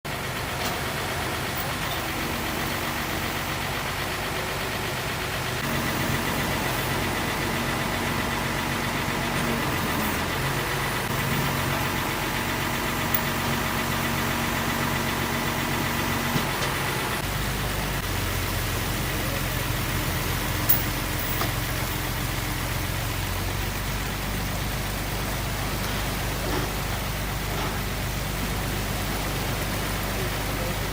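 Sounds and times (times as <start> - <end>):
engine humming: 0.1 - 30.9.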